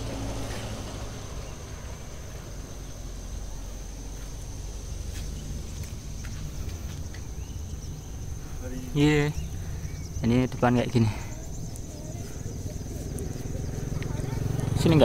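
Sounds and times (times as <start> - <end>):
high-pitched insect whine: 0.0 - 15.0.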